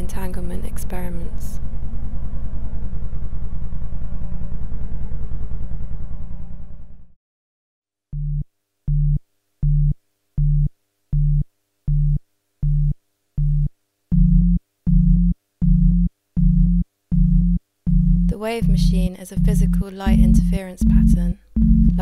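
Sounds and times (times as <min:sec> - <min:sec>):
low electronic tone pulsing: 0:00.6 - 0:07.2, 0:08.2 - 0:22.0.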